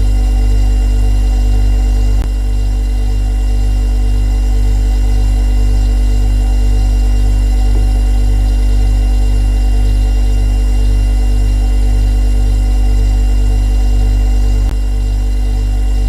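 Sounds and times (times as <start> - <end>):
refrigerator compressor hum: 0.0 - 16.0.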